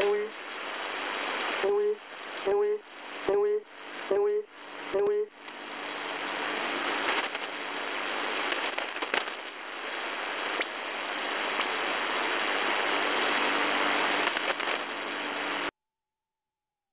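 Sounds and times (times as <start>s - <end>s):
faint steady hum: 0.0s - 15.7s
radio static hiss: 0.0s - 15.7s
static crackles: 0.0s - 15.7s.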